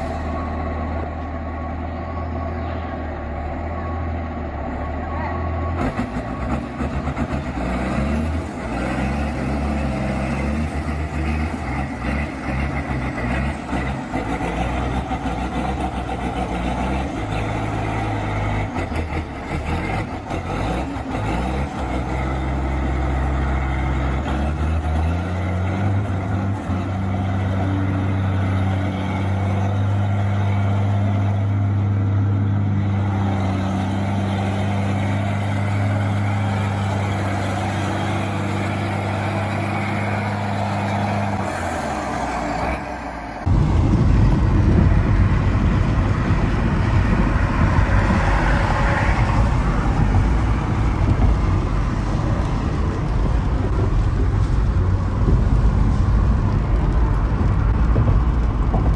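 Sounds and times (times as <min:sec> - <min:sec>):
heavy vehicle engine running: 0:00.0 - 0:58.9.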